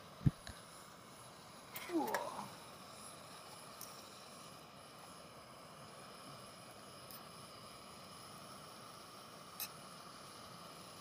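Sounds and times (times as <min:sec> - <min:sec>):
prawns frying hiss: 0:00.0 - 0:11.0.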